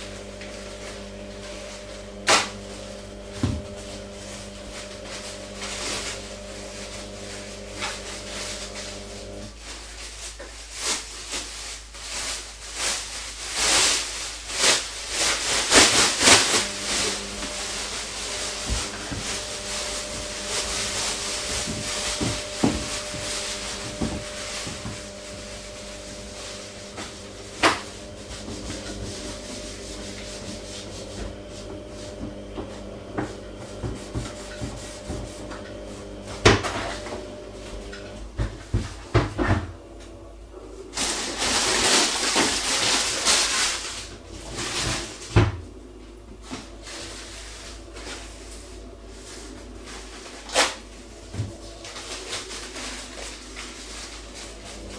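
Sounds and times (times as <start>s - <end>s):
plastic bag rustling and crinkling: 0.0s - 39.8s, 40.8s - 54.9s.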